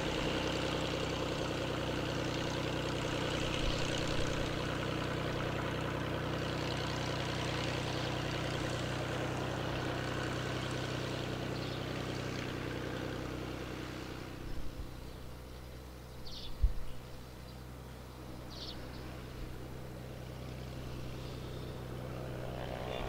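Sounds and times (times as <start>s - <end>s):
propeller plane engine running: 0.0s - 23.0s.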